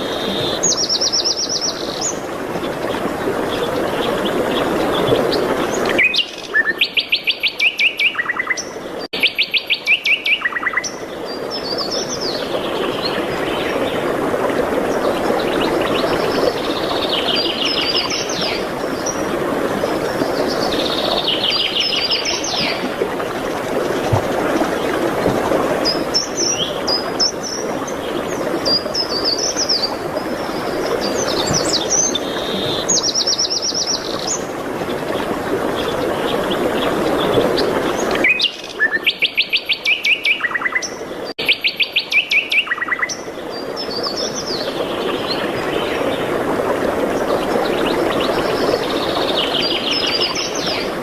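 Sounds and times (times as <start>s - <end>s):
songbirds singing: 0.0s - 14.1s, 14.9s - 22.9s, 25.8s - 46.4s, 47.1s - 51.0s.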